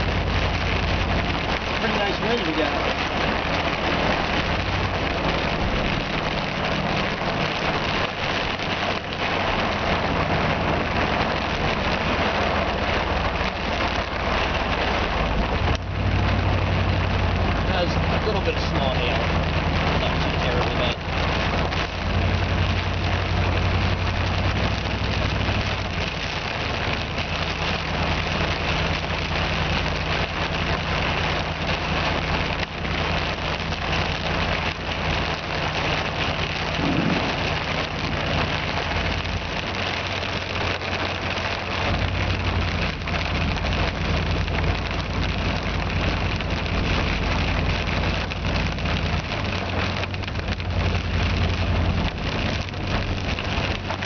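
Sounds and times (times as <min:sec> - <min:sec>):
heavy rain beating on a vehicle: 0:00.0 - 0:54.0
low vehicle hum: 0:00.0 - 0:54.0.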